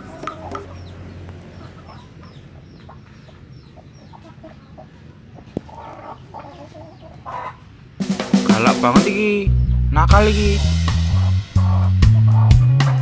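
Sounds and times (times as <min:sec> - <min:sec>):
chickens clucking: 0:00.0 - 0:09.3, 0:10.9 - 0:13.0.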